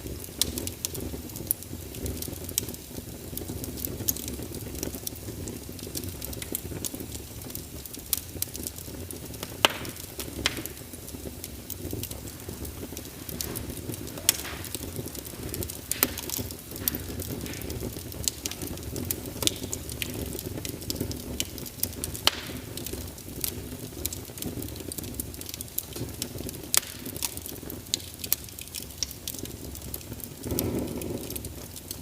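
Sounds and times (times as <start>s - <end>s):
fire crackling and popping: 0.0s - 32.0s.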